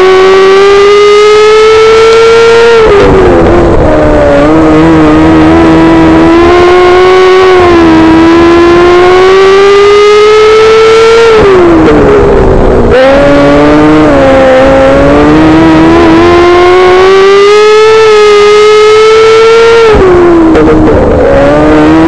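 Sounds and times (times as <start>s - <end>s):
race car engine: 0.0s - 22.0s.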